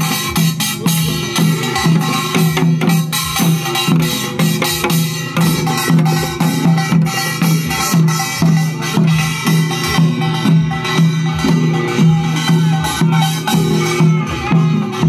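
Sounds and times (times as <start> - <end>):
folk drums and percussion: 0.0 - 15.0.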